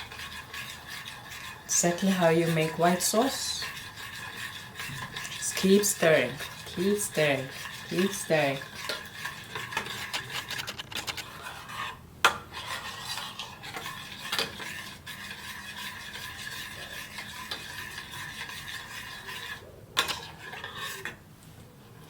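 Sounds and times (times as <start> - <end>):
spoon scraping a pot: 0.0 - 21.2.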